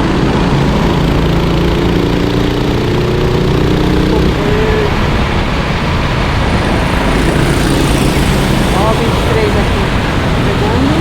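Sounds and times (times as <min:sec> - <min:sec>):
heavy steady noise: 0:00.0 - 0:11.0
racing engine running at speed: 0:00.0 - 0:11.0.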